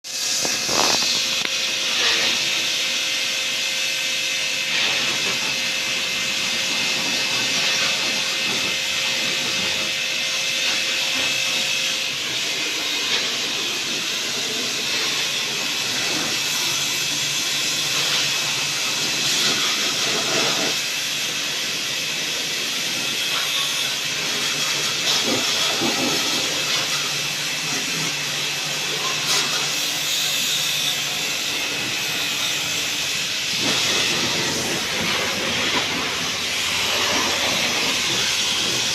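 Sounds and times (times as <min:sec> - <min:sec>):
spray jet hissing: 0:00.1 - 0:02.9, 0:04.6 - 0:38.9.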